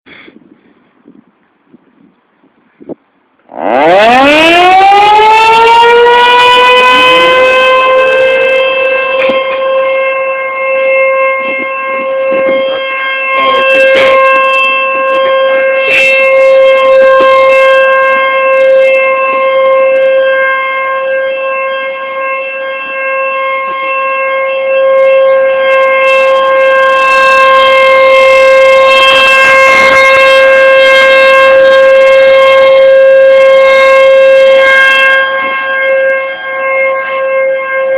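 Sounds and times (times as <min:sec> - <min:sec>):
warning siren winding up: 0:03.5 - 0:37.9.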